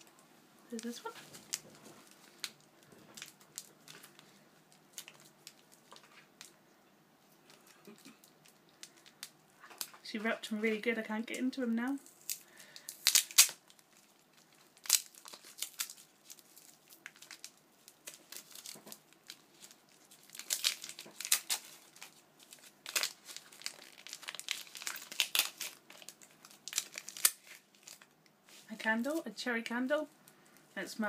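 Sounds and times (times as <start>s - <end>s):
wrapping paper crinkling and tearing: 0.0s - 6.6s, 7.4s - 10.0s, 11.9s - 29.4s.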